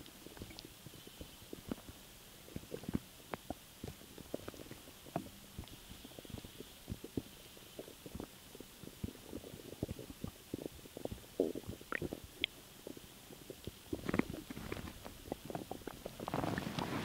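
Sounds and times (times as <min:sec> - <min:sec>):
stomach gurgling: 0:00.0 - 0:17.0.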